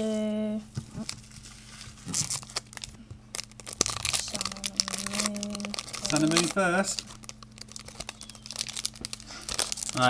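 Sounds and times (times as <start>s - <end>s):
foil wrapper crinkling and tearing: 0.9s - 10.0s.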